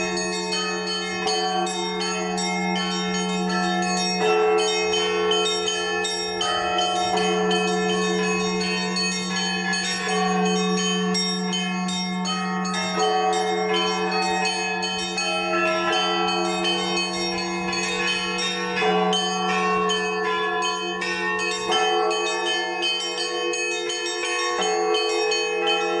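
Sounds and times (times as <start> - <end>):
large bell struck and humming: 0.0 - 26.0
small church bells ringing quickly: 0.0 - 26.0.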